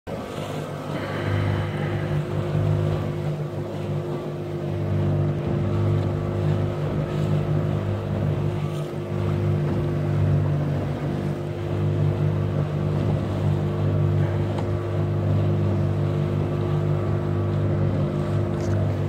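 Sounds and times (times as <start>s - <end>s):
motorboat engine droning: 0.1s - 19.0s.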